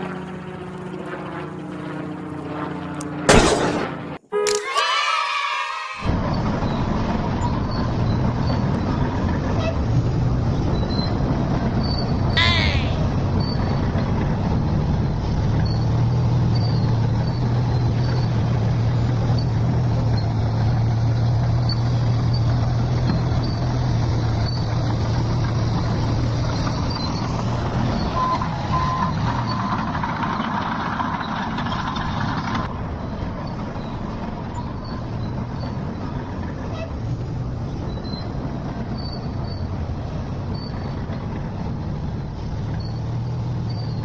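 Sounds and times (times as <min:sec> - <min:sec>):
heavy vehicle engine humming: 0:06.0 - 0:44.0.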